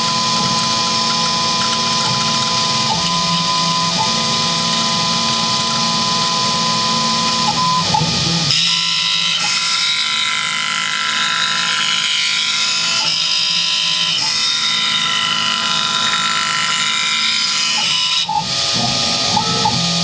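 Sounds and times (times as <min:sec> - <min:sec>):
end mill cutting plastic: 0:00.0 - 0:20.0
milling spindle high whine: 0:00.0 - 0:20.0.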